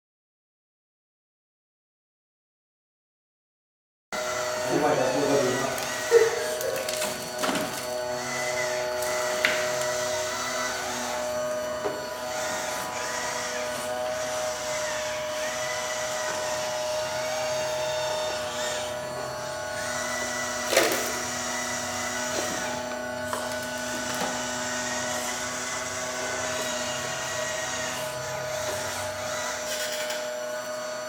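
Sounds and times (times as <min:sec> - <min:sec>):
electric motors whining: 0:04.2 - 0:31.0.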